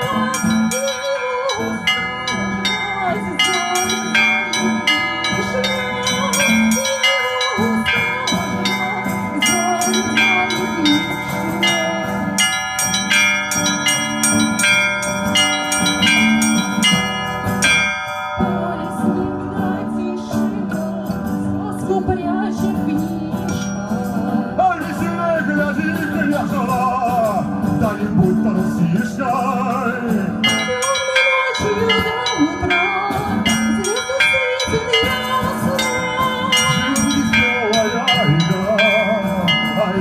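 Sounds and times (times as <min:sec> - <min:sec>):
large bells ringing: 0:00.0 - 0:21.7, 0:23.4 - 0:40.0
rapid strikes on small bells: 0:00.0 - 0:21.8, 0:22.6 - 0:40.0.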